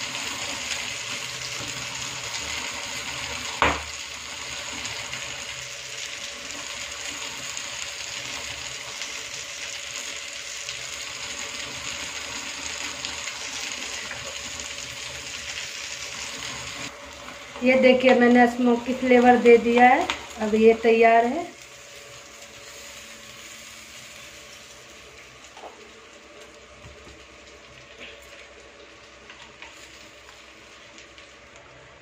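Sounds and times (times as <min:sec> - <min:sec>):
chicken sizzling in flame: 0:00.0 - 0:32.0
gas burner hissing: 0:00.0 - 0:32.0.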